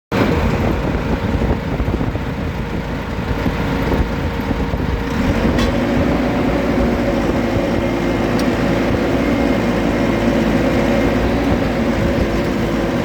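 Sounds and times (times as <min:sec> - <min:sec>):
combine harvester engine drone: 0:00.1 - 0:13.0.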